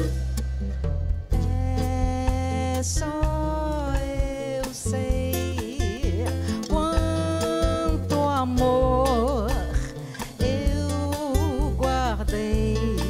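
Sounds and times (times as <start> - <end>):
drum kit: 0.0 - 13.0
electric bass: 0.0 - 13.0
nylon-string acoustic guitar: 0.0 - 13.0.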